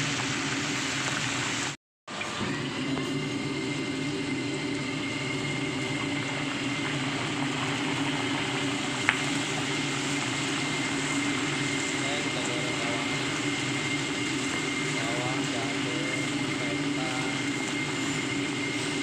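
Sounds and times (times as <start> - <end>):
oil sizzling in a wok: 0.0 - 19.0
stove humming: 0.0 - 19.0.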